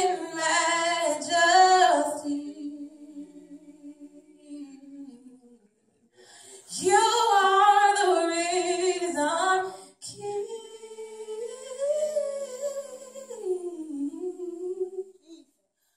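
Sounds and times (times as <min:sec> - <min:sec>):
woman singing unaccompanied: 0:00.0 - 0:05.6, 0:06.6 - 0:15.2.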